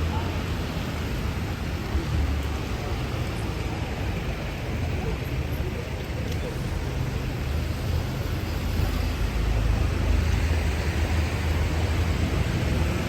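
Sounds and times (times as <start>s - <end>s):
passing vehicles rumbling: 0.0s - 13.0s
steady traffic hiss: 0.0s - 13.0s.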